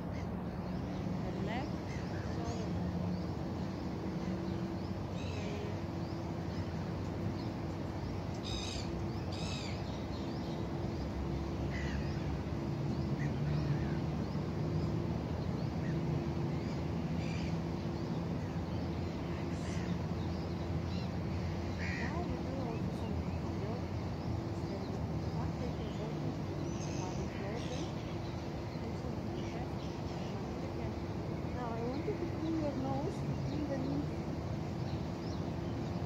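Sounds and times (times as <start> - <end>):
birds calling: 0.0 - 36.0
low steady hum: 0.0 - 36.0.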